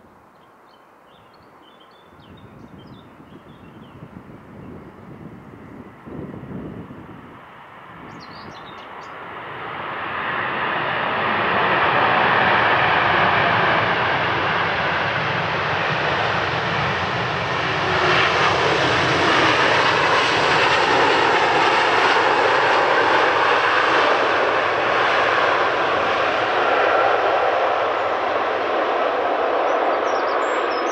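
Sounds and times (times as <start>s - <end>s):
jet engine roar: 2.7s - 30.9s.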